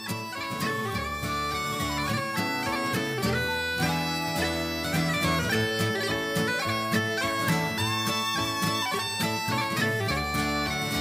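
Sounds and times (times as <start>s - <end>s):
bagpipe tune: 0.0s - 11.0s.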